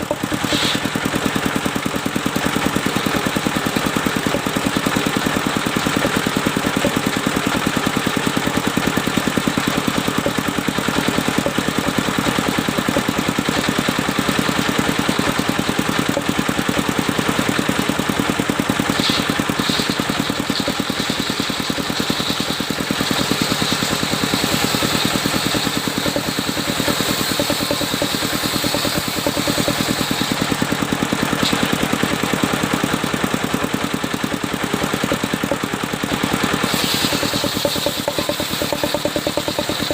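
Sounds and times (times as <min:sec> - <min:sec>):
saw blade whining through wood: 0:00.0 - 0:39.9
sawmill engine running: 0:00.0 - 0:39.9.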